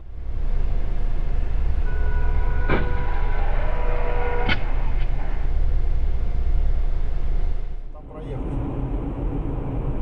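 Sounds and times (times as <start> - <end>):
low rumble of car: 0.0 - 10.0.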